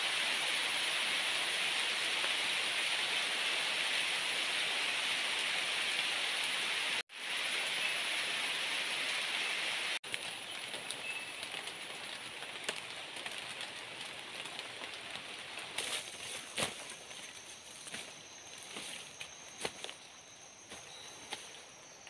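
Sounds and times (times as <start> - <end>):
heavy rain on foliage: 0.0 - 22.0.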